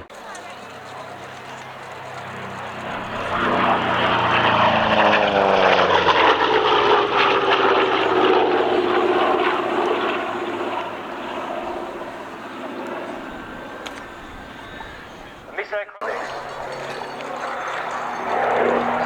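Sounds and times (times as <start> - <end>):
propeller plane passing by: 0.0 - 19.0.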